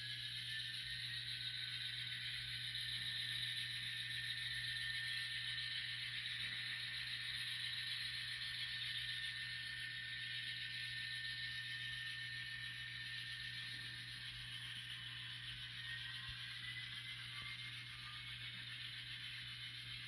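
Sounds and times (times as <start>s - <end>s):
model train motor whine: 0.0s - 20.0s.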